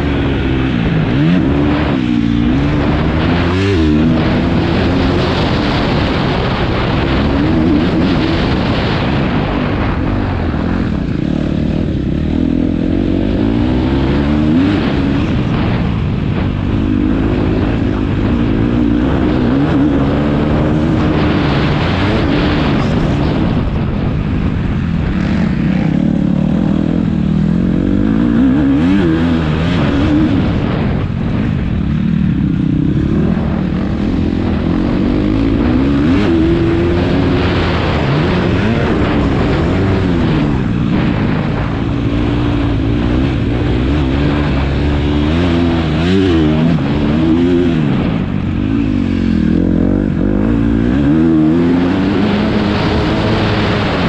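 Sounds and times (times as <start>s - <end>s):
motocross engines revving: 0.0s - 54.0s.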